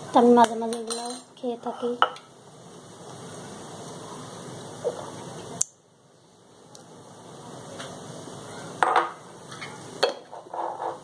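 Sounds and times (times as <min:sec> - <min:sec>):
steady kitchen hiss: 0:00.0 - 0:11.0.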